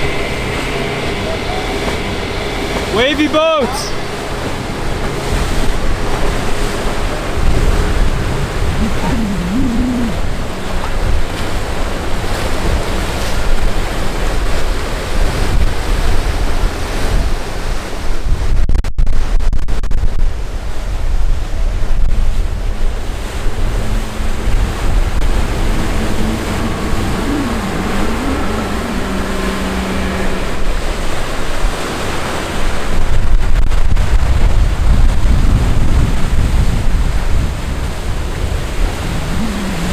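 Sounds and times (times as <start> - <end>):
faint outboard engine drone: 0.0 - 18.5, 20.0 - 39.9
rushing churning water: 0.0 - 18.6, 20.0 - 39.9
wind buffeting microphone: 0.0 - 39.9.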